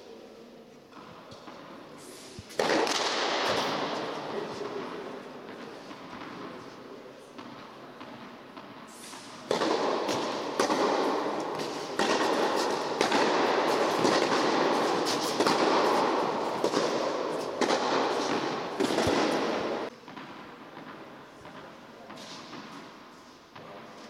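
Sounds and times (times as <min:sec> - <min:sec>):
tennis ball struck by racket: 0:02.4 - 0:06.5, 0:07.3 - 0:23.0.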